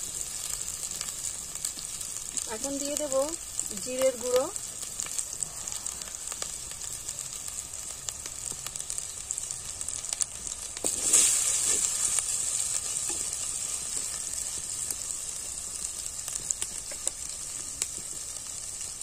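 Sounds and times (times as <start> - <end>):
masala sizzling in hot oil: 0.0 - 19.0.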